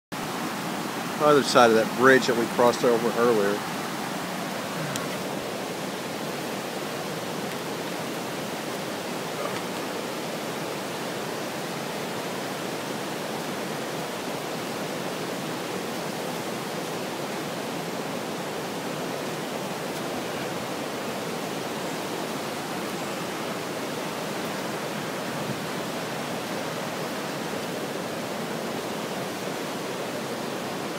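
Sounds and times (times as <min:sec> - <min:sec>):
river rapids rushing: 0:00.2 - 0:30.9.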